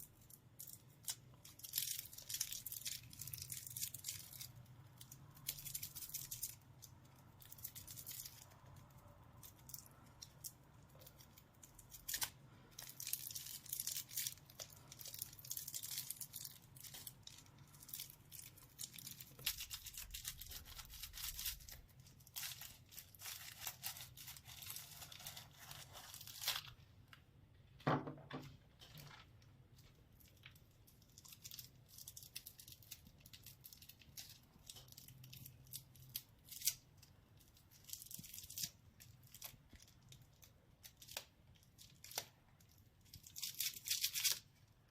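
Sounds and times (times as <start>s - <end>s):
plastic wrappers crinkling: 0.0s - 27.8s, 28.4s - 44.9s.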